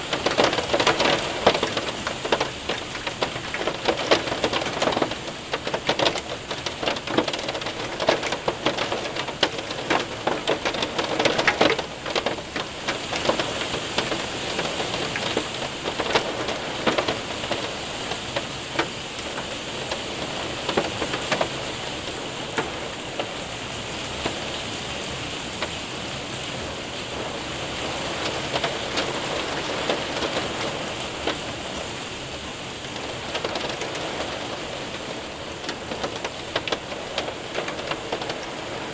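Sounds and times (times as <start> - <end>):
hailstones ticking: 0.0 - 38.9
rain on window and roof: 0.0 - 38.9.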